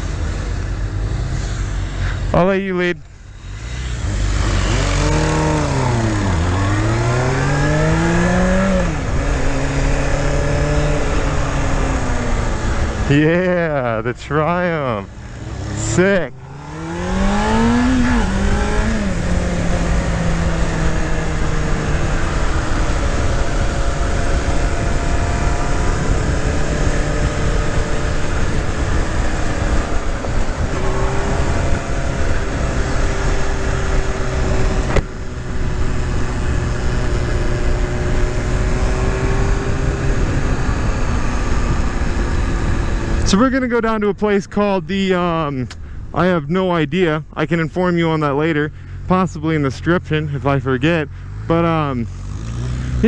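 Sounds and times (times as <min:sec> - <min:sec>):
motorcycle engine running: 0:00.0 - 0:43.8
heavy wind noise: 0:00.0 - 0:53.0.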